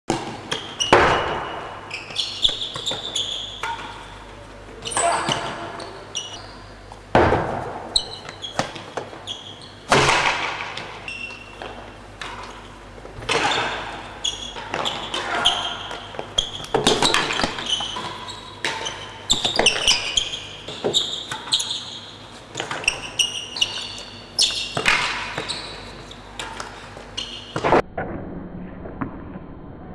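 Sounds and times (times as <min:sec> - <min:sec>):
rackets striking ball: 0:00.1 - 0:04.2, 0:04.8 - 0:27.8.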